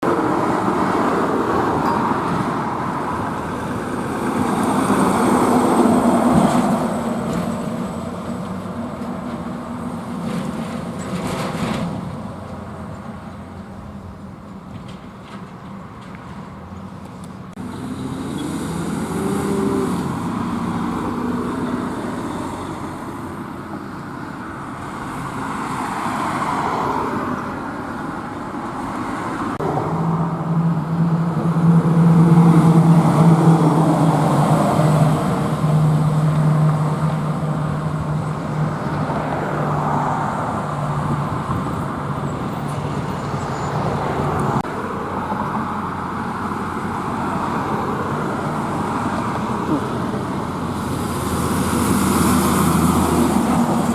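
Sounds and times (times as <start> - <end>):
heavy engine low drone: 0.0 - 53.9
road traffic passing: 0.0 - 53.9.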